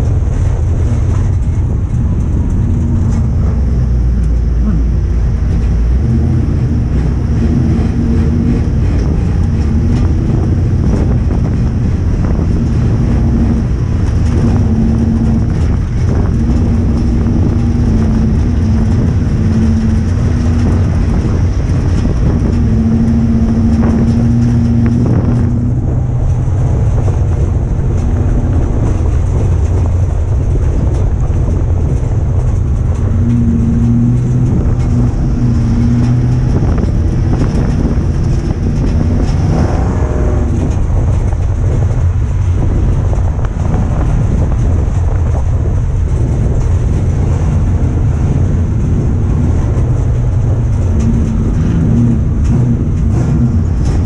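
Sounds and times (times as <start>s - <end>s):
car engine running hard: 0.0s - 54.0s
rattles: 0.0s - 54.0s.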